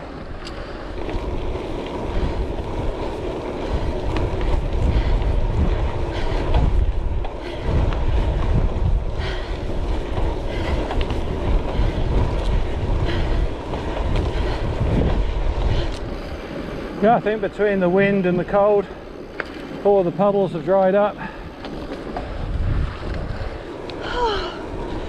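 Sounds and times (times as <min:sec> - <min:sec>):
bike clicks and rattles: 0:00.0 - 0:25.0
bike tyres rolling on road: 0:00.0 - 0:25.0
wind buffeting microphone: 0:00.0 - 0:25.0.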